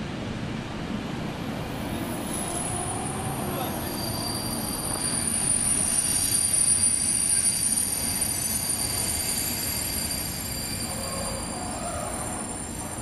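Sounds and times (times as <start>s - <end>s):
freight train rumbling past: 0.0s - 13.0s
high-pitched wheel squeal: 2.2s - 13.0s.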